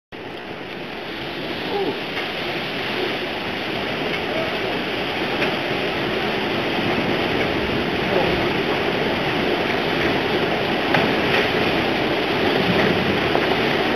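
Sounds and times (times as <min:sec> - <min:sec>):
waves surging around ship hull: 0:00.1 - 0:13.9.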